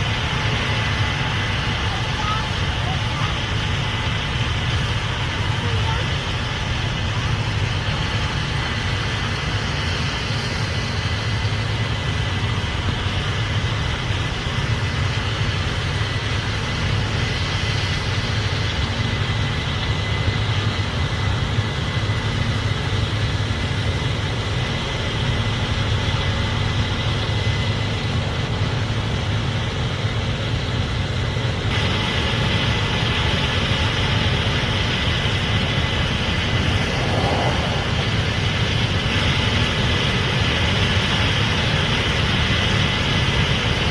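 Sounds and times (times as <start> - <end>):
combine harvester droning: 0.0 - 43.9.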